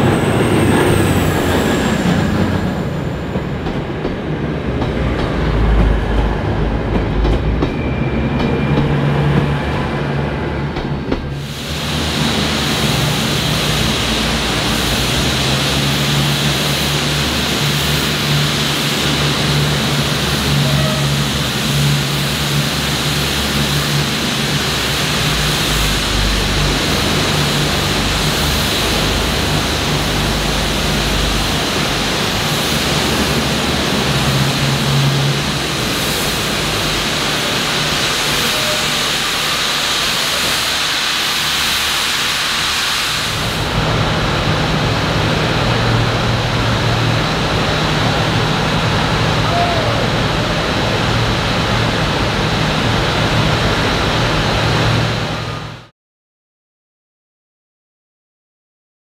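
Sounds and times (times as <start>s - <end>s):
steam hissing: 0.0s - 55.6s.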